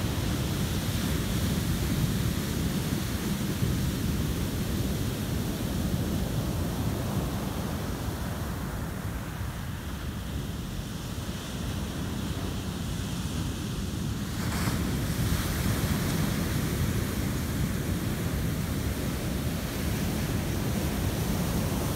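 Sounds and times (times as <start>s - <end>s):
ocean surf breaking on beach: 0.0s - 21.9s.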